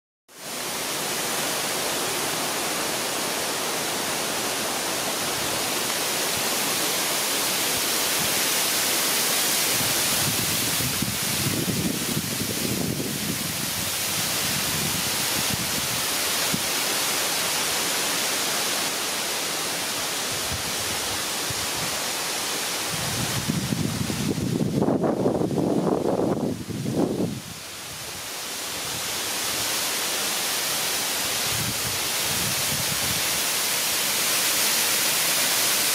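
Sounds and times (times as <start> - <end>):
waterfall into a pool: 0.3 - 23.6, 28.1 - 35.9.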